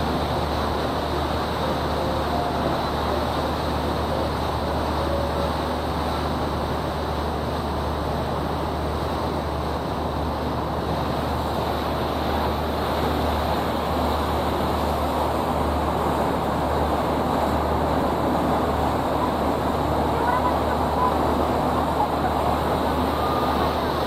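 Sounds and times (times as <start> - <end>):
boat engine rumble: 0.0 - 24.0
rushing water: 0.0 - 24.0.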